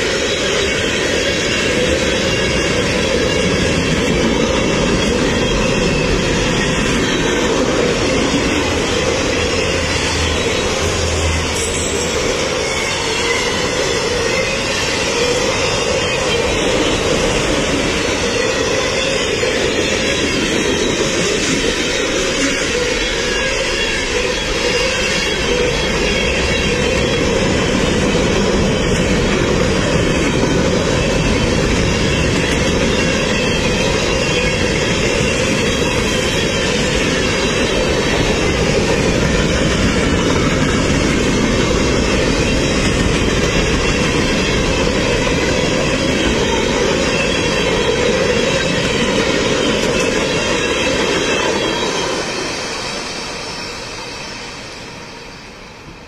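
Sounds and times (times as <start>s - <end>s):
freight train cars rolling on rails: 0.0s - 56.0s.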